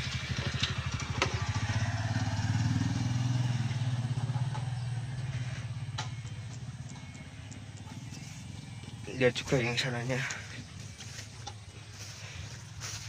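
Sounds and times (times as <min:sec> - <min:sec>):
motorcycle engine passing: 0:00.0 - 0:13.0.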